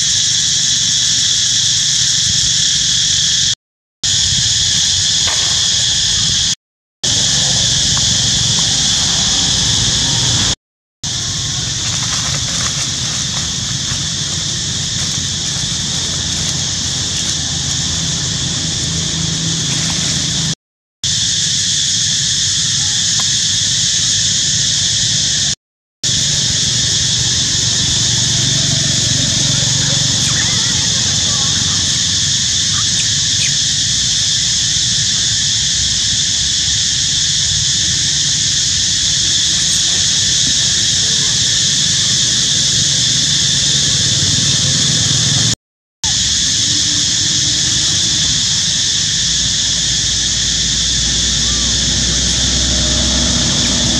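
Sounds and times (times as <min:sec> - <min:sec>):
high-pitched hiss: 0:00.0 - 0:53.9
insect chorus: 0:00.0 - 0:53.9.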